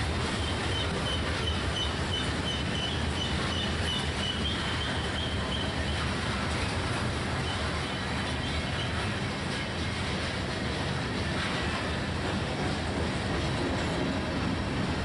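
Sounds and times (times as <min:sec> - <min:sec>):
freight train rolling on rails: 0:00.0 - 0:15.0.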